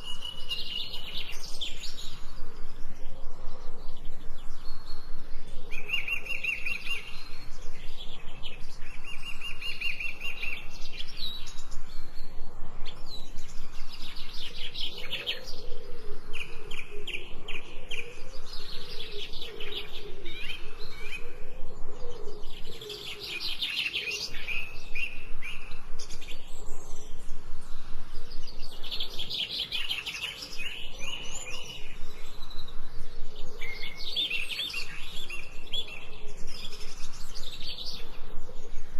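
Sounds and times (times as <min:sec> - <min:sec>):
wild birds chirping and singing: 0:00.0 - 0:38.9.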